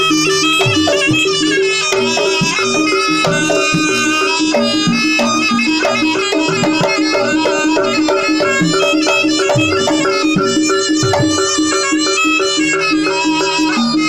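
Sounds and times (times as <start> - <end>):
drum strokes: 0.0 - 12.6
gamelan accompaniment: 0.0 - 14.0
shrill reed wind instrument melody: 0.0 - 14.0.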